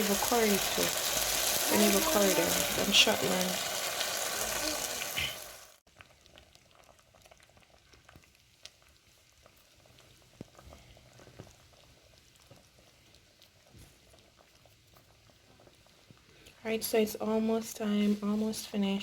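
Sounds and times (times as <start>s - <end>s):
stew bubbling in a pot: 0.0s - 17.6s.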